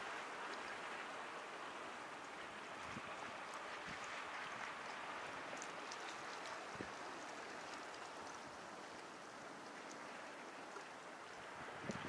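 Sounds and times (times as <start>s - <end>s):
small waves hissing on shore: 0.0s - 12.0s.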